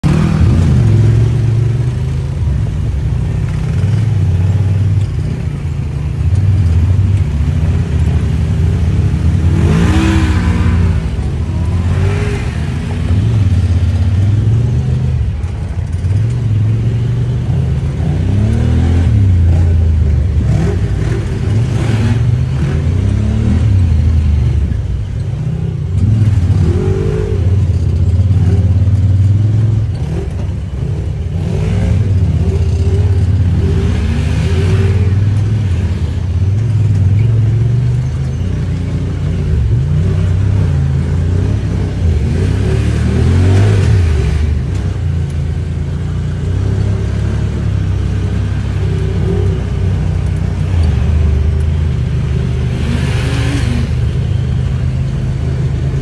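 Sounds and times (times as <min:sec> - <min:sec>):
engines revving: 0:00.0 - 0:56.0.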